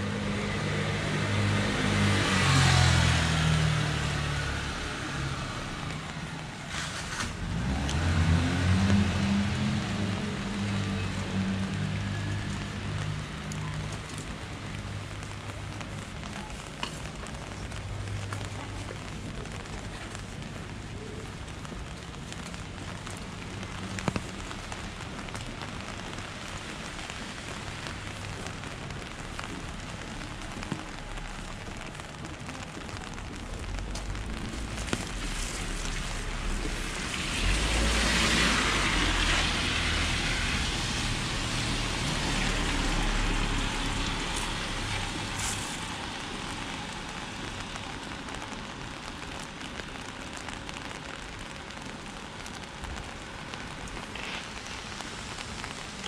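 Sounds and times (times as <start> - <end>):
steady rain falling: 0.0 - 56.0
vehicle passing on wet street: 0.0 - 56.0
raindrops ticking: 0.1 - 56.0.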